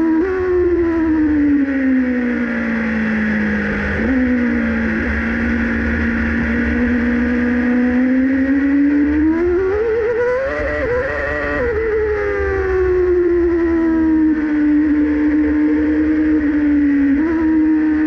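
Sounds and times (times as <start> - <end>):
racing car engine: 0.0 - 18.0.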